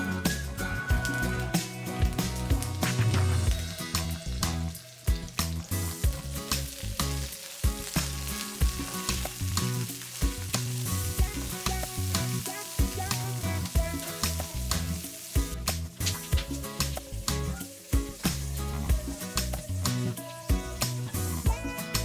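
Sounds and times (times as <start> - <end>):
background music: 0.0 - 22.0
food sizzling in hot oil: 0.0 - 22.0.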